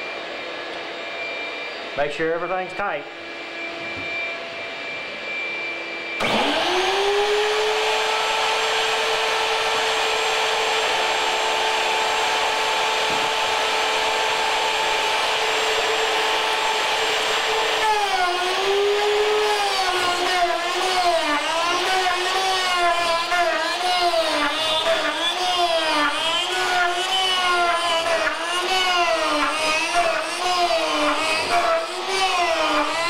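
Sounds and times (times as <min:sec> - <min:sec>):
router whining: 0:00.0 - 0:33.0.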